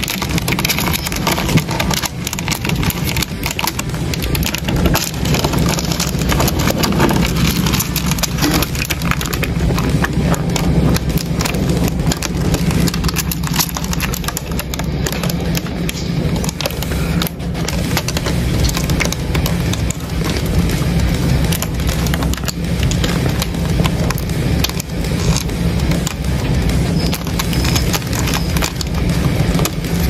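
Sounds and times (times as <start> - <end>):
beetles scratching on wood: 0.0 - 30.0
steady low hum: 0.0 - 30.0.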